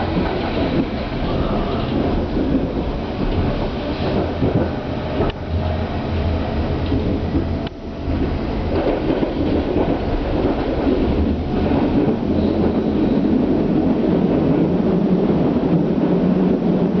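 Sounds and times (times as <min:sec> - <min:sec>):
electric train traction noise: 0:00.0 - 0:16.8
train wheels rumbling on track: 0:00.0 - 0:17.0.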